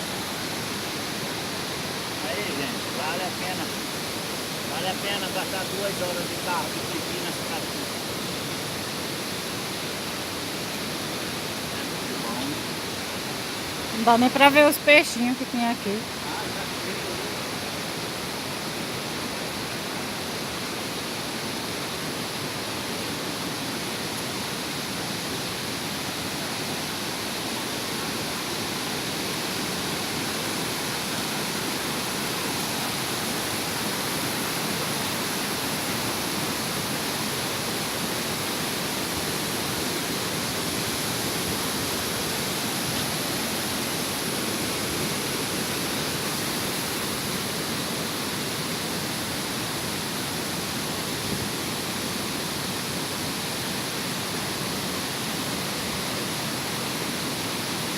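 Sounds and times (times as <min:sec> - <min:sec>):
waterfall and river rushing: 0:00.0 - 0:57.9.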